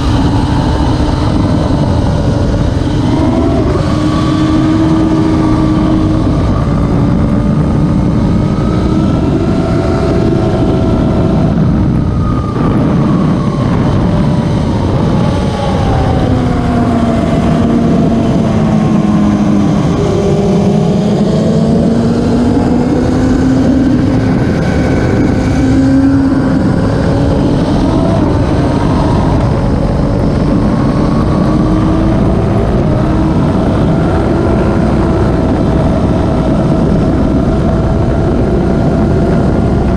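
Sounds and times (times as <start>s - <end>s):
mechanical and rushing noise: 0.0s - 39.9s
racing motorcycle engine: 0.0s - 39.9s.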